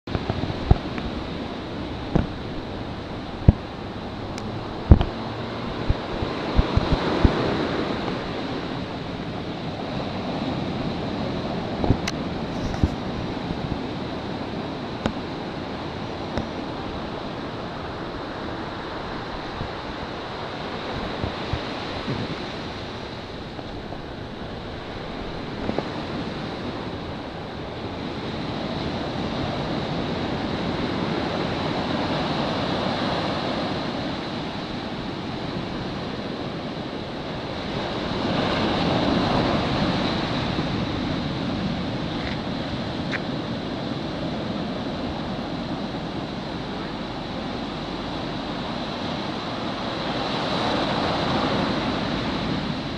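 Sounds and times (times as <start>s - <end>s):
ocean waves breaking: 0.0s - 52.9s
wind on microphone: 0.0s - 52.9s.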